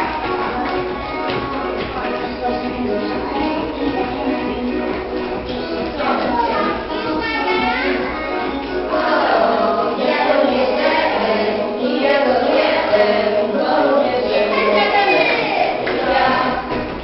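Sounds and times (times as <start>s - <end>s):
group of voices singing: 0.0s - 17.0s
musical accompaniment: 0.0s - 17.0s.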